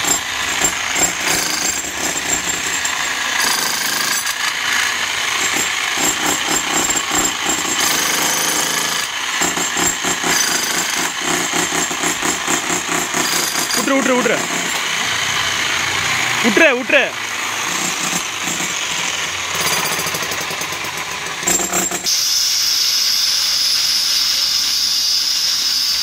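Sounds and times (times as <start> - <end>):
demolition hammer chiselling concrete: 0.0 - 24.0.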